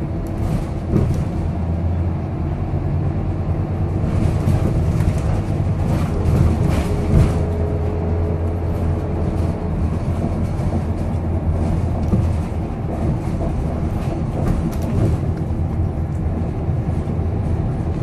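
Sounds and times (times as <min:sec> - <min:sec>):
bus diesel engine drone: 0:00.0 - 0:18.0
road noise: 0:00.0 - 0:18.0.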